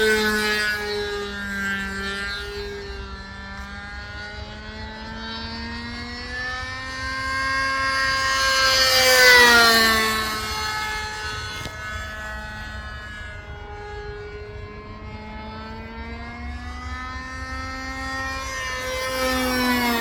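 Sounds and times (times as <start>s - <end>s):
model plane engine passing: 0.0s - 20.0s.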